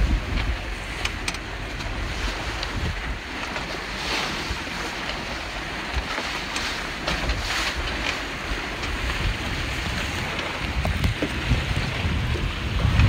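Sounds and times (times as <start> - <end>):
water rushing along hulls: 0.0 - 13.0
wind buffeting microphone: 0.0 - 13.0.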